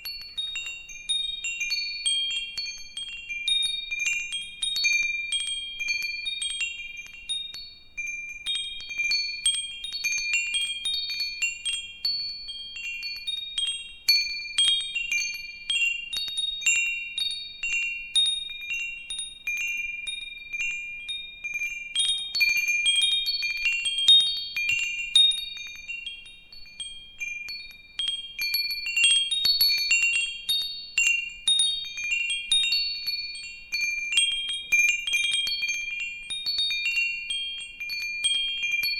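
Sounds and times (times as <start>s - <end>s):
wind chimes tinkling: 0.0s - 38.9s.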